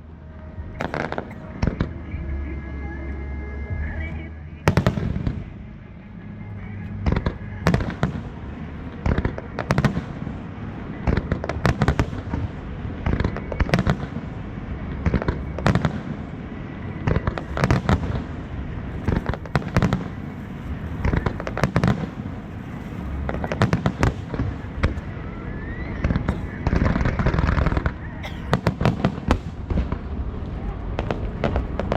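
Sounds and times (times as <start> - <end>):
fireworks bangs: 0.6 - 2.2, 3.8 - 31.9.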